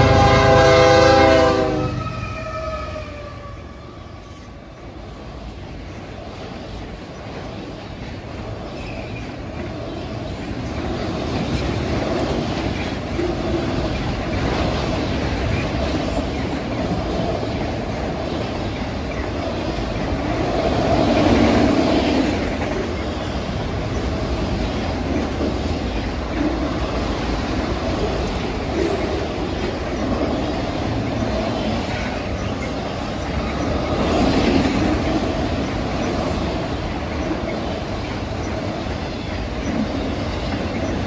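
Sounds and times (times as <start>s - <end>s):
freight train wheels rumbling on rails: 0.0s - 41.0s.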